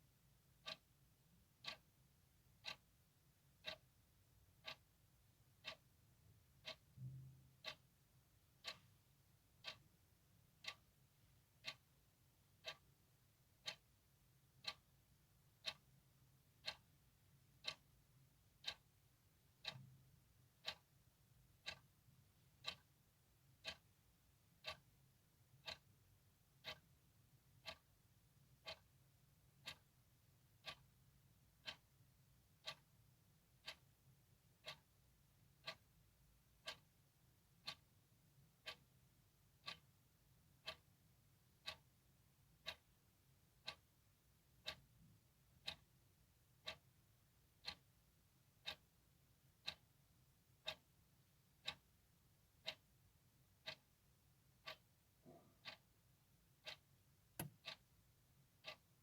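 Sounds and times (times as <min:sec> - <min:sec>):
clock ticking: 0:00.4 - 0:59.0.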